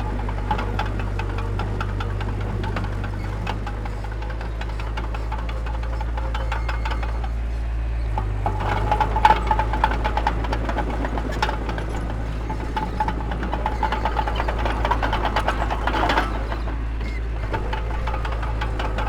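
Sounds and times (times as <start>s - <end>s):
diesel engine running: 0.0s - 19.0s
machinery clanking and rattling: 0.0s - 19.0s.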